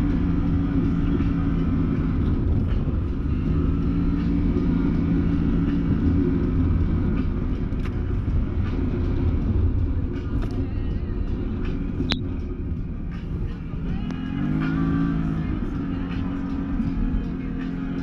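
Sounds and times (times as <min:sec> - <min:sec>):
off-road vehicle engine droning: 0:00.0 - 0:18.0.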